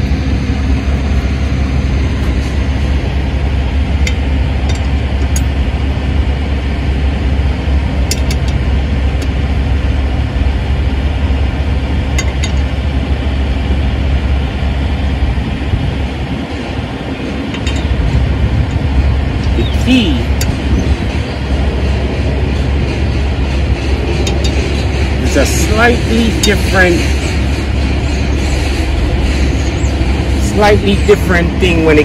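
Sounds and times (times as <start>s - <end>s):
low vehicle rumble: 0.0s - 32.0s.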